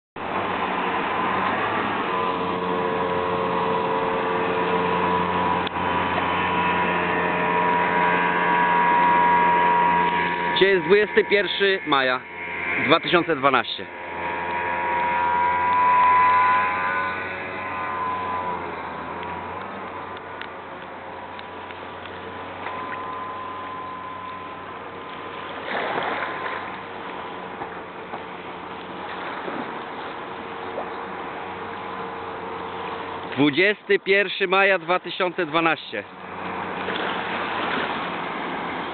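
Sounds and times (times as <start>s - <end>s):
speedboat engine running: 0.2s - 38.9s.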